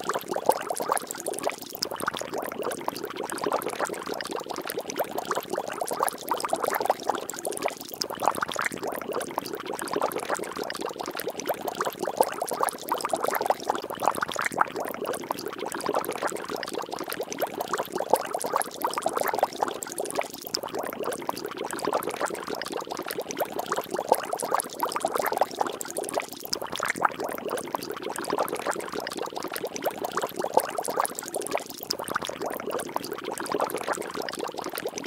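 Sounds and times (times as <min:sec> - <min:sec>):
water bubbling and splashing: 0:00.0 - 0:35.0.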